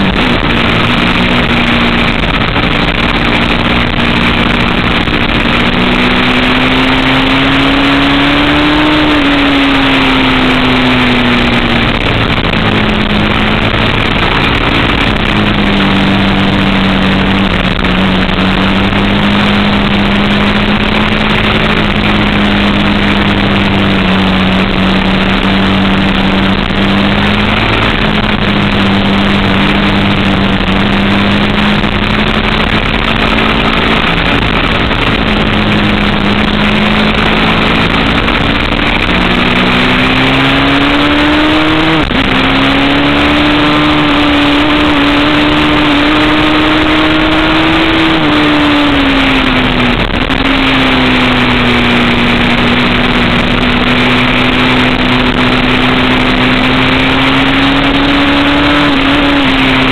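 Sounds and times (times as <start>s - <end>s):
motorcycle engine at speed: 0.0s - 59.9s
wind rush on microphone: 0.0s - 59.9s.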